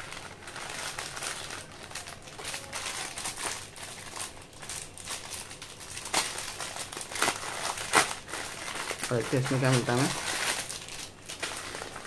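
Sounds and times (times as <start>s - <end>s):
foil snack packet crinkling: 0.0s - 12.0s
scissors cutting foil: 0.0s - 12.0s.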